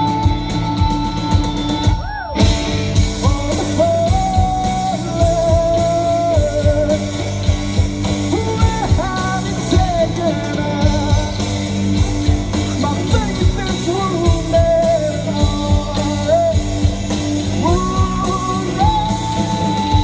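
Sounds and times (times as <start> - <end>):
drum kit beat: 0.0 - 20.0
electric guitars: 0.0 - 20.0.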